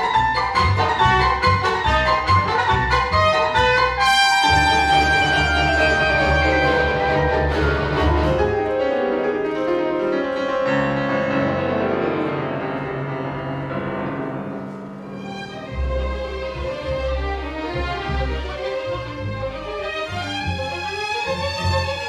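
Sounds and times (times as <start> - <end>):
piano with string orchestra: 0.0 - 22.0.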